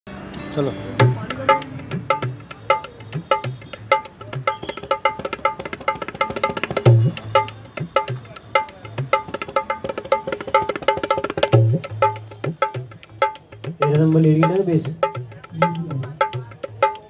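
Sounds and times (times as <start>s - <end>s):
hand drum rhythm: 0.9s - 17.0s.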